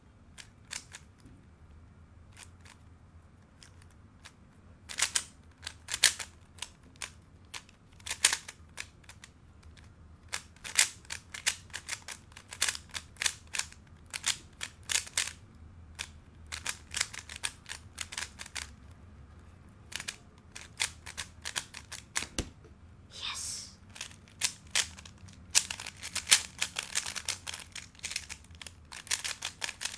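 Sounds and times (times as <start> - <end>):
puzzle cube plastic clicks: 0.4 - 1.3, 2.3 - 2.8, 3.5 - 19.0, 19.8 - 22.4, 23.9 - 29.9.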